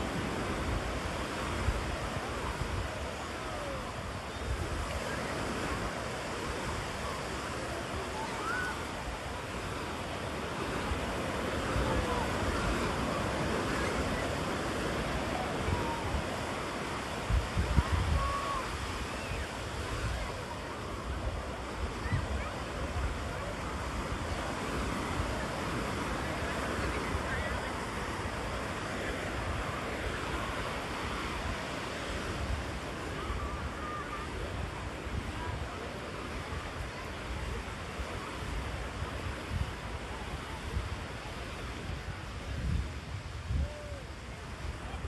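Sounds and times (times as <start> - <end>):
ocean surf breaking on beach: 0.0 - 45.0.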